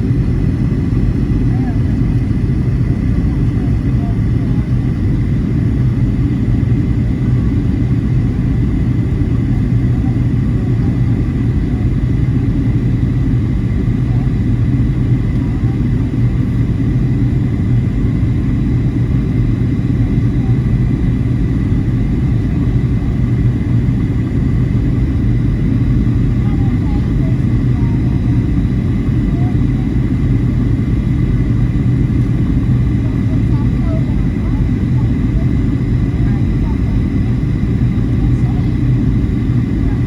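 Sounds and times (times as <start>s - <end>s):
airliner cabin engine drone: 0.0s - 40.0s.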